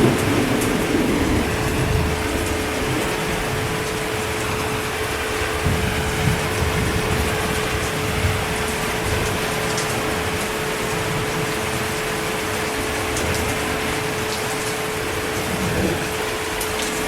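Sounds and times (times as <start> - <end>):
constant steady hum: 0.0 - 17.0
heavy rain hissing: 0.0 - 17.0.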